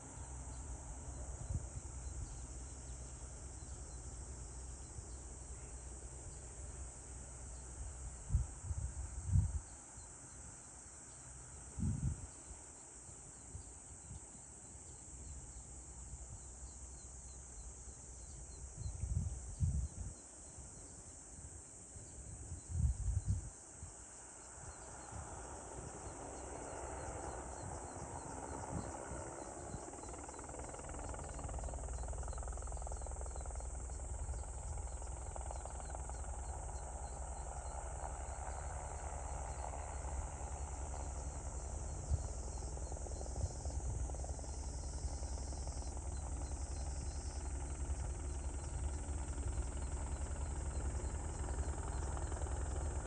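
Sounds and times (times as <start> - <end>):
helicopter rotor and engine drone: 0.0 - 53.0
insects chirping: 0.0 - 53.0.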